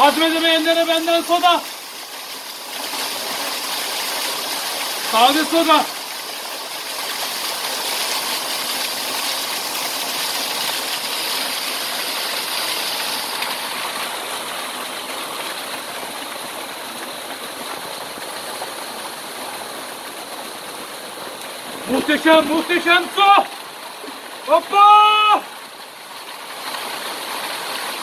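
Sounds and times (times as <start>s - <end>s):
waterfall pouring into a pool: 0.0s - 28.0s.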